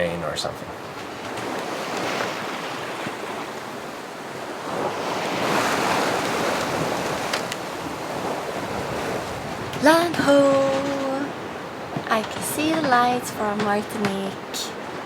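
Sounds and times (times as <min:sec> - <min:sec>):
water rushing along boat hull: 0:00.1 - 0:15.0.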